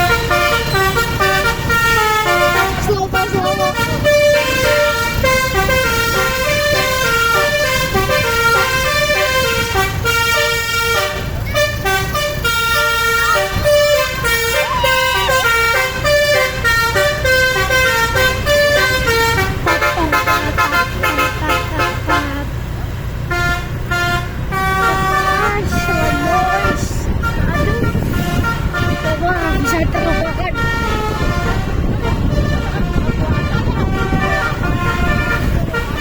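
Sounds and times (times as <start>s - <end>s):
bus horn playing a tune: 0.0s - 36.0s
low engine rumble: 0.0s - 36.0s.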